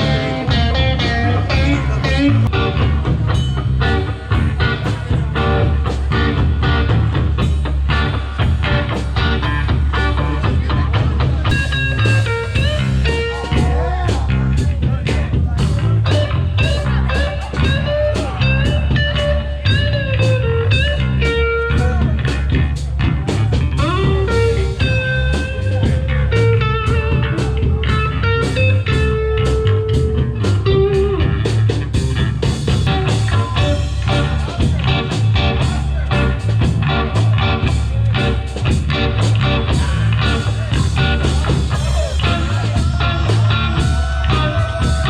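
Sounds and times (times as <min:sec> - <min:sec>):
electric guitar lead: 0:00.0 - 0:14.9, 0:15.6 - 0:45.0
drum beat: 0:00.0 - 0:20.0, 0:20.7 - 0:29.2, 0:30.0 - 0:45.0
bass line: 0:00.0 - 0:45.0.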